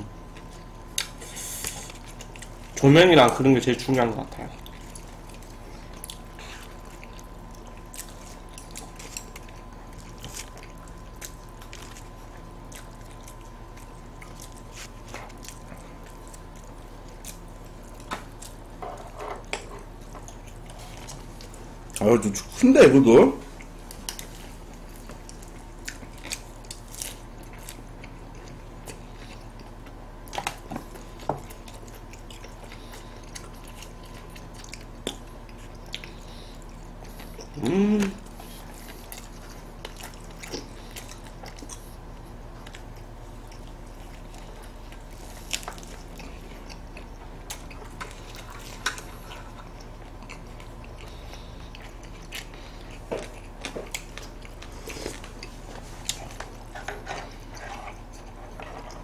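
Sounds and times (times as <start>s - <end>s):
chewing and biting lettuce: 0.0s - 22.7s, 23.4s - 59.0s
steady low hum: 0.0s - 59.0s.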